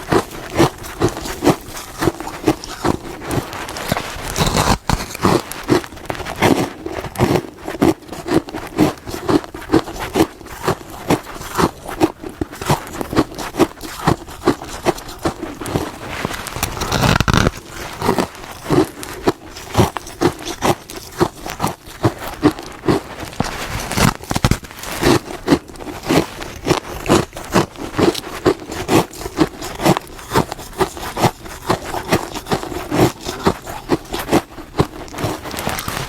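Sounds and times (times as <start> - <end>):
chewing crunchy frost: 0.0 - 36.0.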